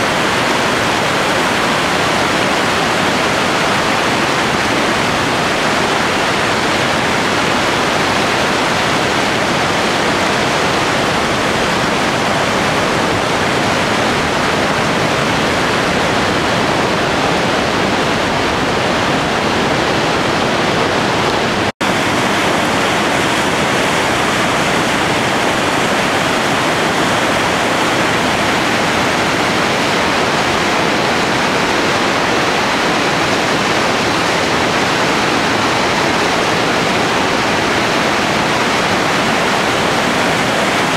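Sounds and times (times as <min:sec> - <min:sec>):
river rapids rushing: 0:00.0 - 0:40.9.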